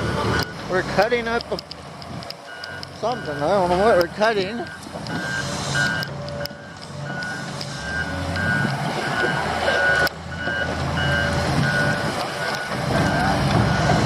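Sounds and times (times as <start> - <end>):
diesel engine running: 0.0 - 14.0
reversing alarm beeping: 0.3 - 0.6, 2.5 - 14.0.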